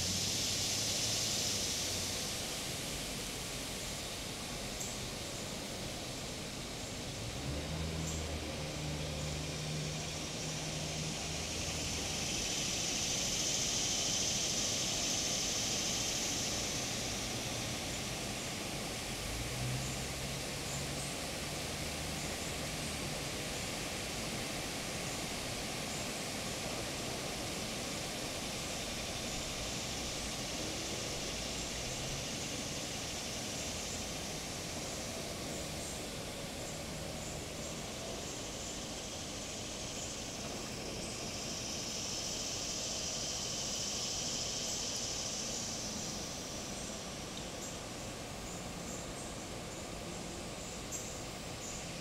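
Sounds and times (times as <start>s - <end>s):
cicada buzzing: 0.0s - 52.0s
high insect hiss: 0.0s - 52.0s.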